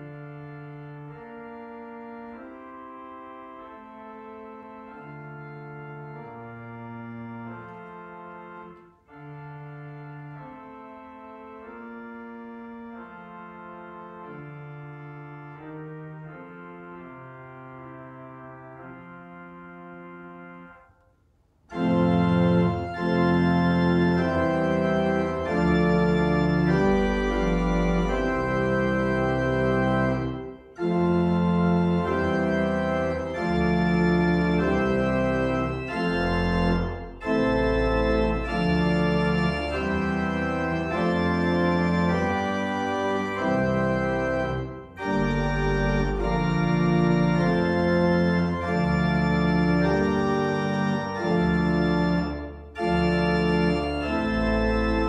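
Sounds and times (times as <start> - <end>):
pipe organ playing chords: 0.0 - 55.0.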